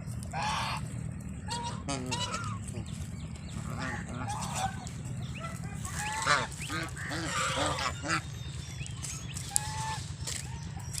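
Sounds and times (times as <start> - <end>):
steady low rumble: 0.0 - 11.0
fowl calling: 0.1 - 11.0.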